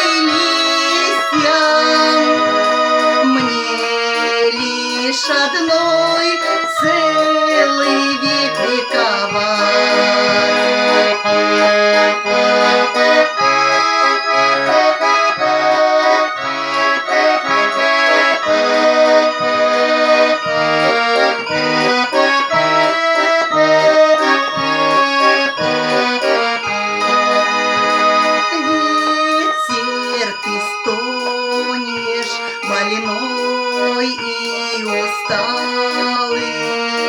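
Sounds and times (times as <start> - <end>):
button accordion folk melody: 0.0 - 37.0.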